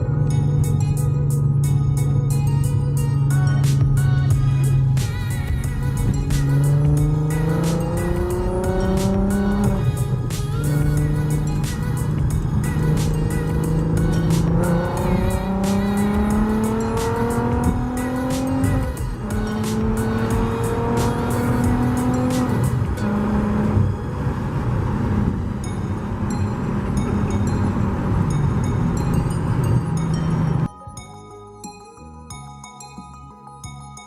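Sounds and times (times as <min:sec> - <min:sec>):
car exhaust under acceleration: 0:00.0 - 0:30.7.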